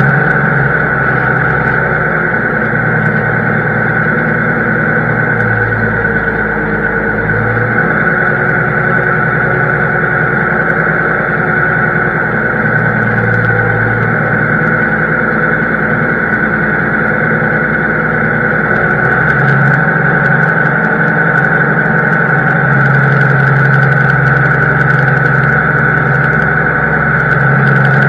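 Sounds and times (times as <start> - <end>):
constant high whine: 0.0 - 28.0
diesel engine running: 0.0 - 28.0.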